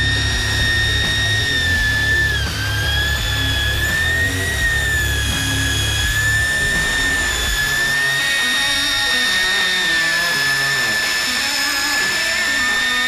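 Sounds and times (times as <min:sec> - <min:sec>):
background music with bass: 0:00.0 - 0:13.0
fishing reel motor whining: 0:00.0 - 0:13.0.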